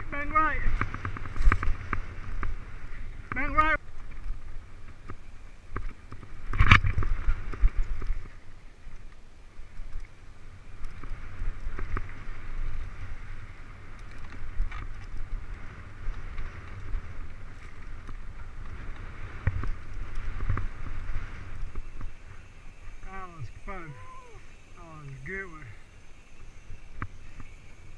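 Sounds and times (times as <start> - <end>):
bike rattling over ground: 0.0 - 27.9
wind and trail rumble: 0.0 - 27.9.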